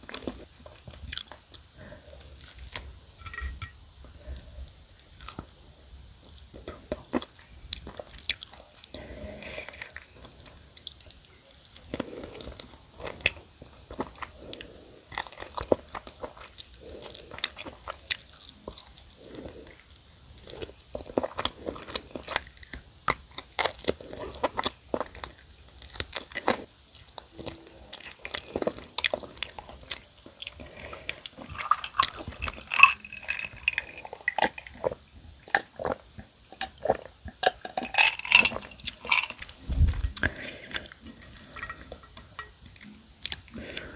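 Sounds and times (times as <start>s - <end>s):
crunching fried chicken: 6.3s - 41.8s.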